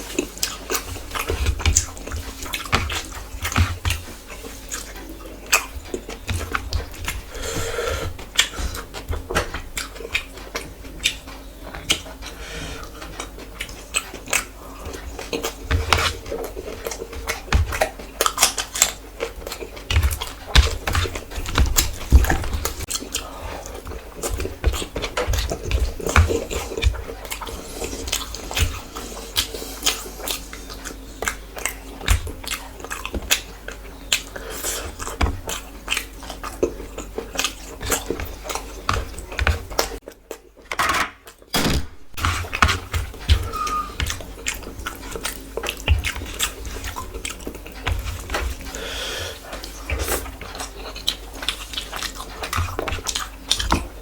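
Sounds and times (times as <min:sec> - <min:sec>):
chewing and lip-smacking: 0:00.0 - 0:41.5, 0:42.4 - 0:54.0.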